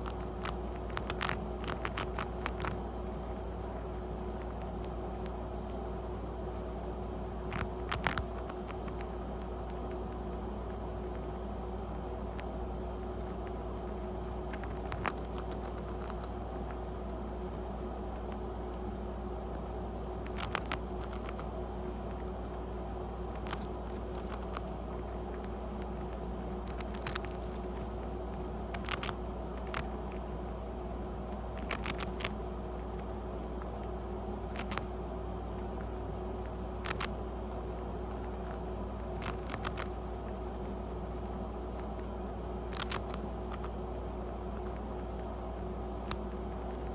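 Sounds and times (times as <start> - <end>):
rat crunching a cracker: 0.0 - 46.9
steady background hum: 0.0 - 46.9.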